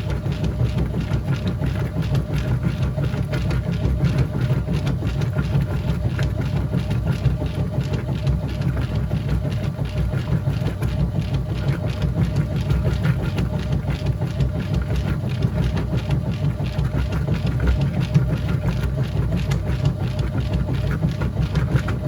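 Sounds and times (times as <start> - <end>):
washing machine rumbling: 0.0 - 22.0.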